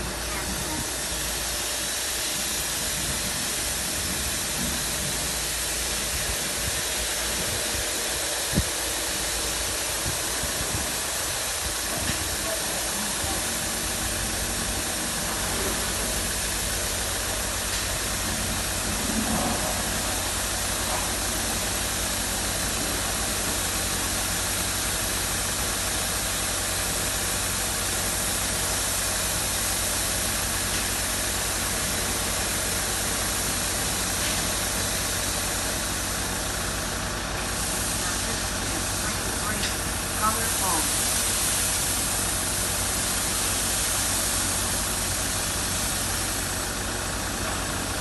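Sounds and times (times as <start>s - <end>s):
high-pressure water spraying: 0.0s - 48.0s
low machine hum: 0.0s - 48.0s.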